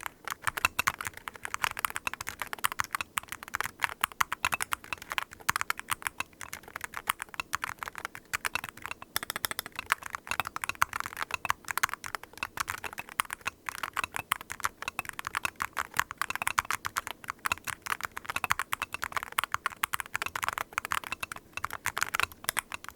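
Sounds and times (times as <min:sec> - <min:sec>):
fast typing on keyboard: 0:00.0 - 0:22.9.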